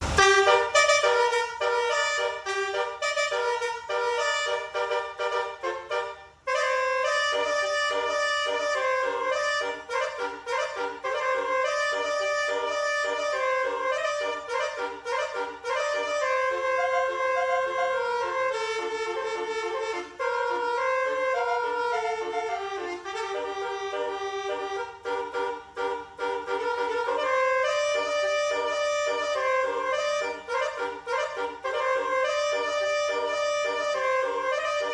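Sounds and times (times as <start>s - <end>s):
bus air horn playing a tune: 0.0s - 34.9s.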